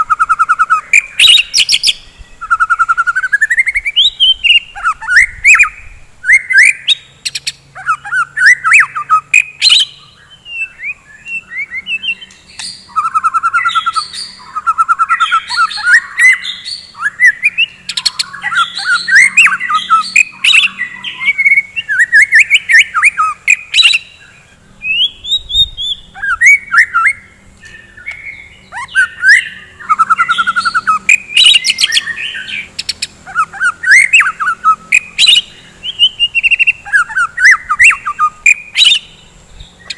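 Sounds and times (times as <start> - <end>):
songbird singing varied whistles: 0.0 - 39.9.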